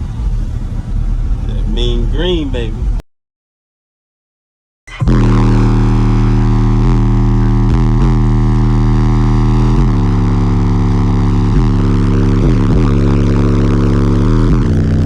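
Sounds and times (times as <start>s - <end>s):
loud bass-heavy music: 0.0s - 3.0s, 4.9s - 15.0s.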